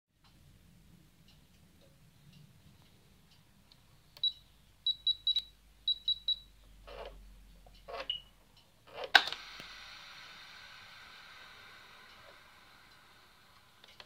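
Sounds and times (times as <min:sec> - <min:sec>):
faint steady hiss: 0:00.2 - 0:14.0.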